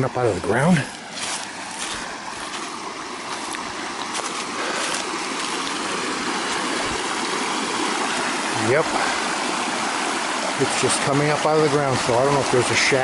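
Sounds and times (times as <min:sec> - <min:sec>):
water rushing out of the ground: 0:00.0 - 0:13.0.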